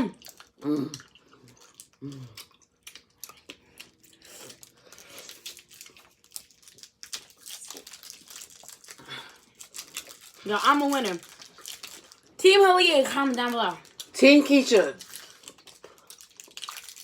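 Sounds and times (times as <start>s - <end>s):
chewing sticky candy: 0.0s - 17.0s
candy wrappers crinkling and tearing: 0.2s - 17.0s.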